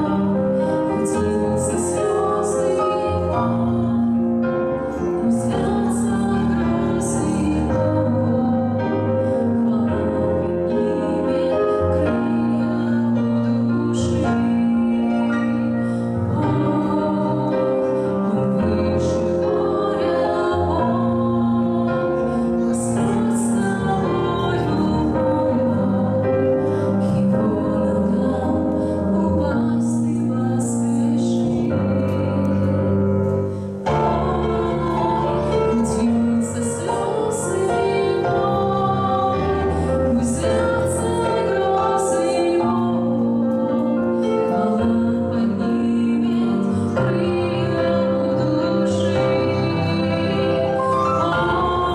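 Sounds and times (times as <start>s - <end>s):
instrumental accompaniment: 0.0s - 51.9s
woman singing into microphone: 0.0s - 51.9s.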